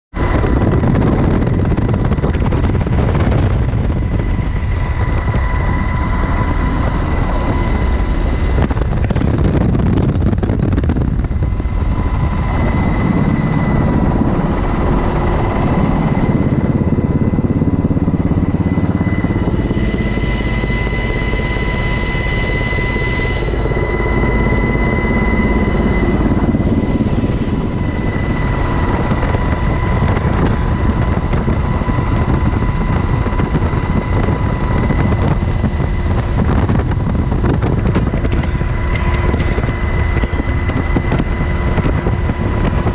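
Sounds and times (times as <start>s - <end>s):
helicopter rotor and engine drone: 0.1s - 42.9s
high whine: 0.1s - 42.9s.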